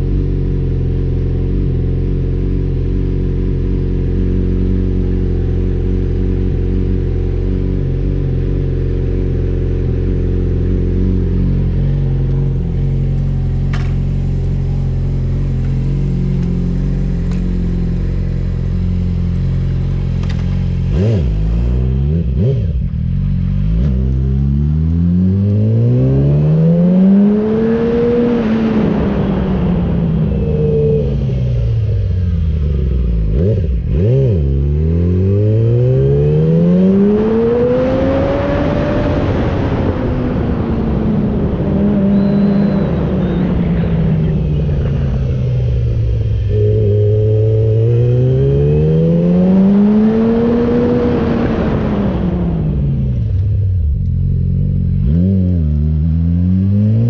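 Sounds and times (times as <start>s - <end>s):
motorcycle engine accelerating hard: 0.0s - 57.0s.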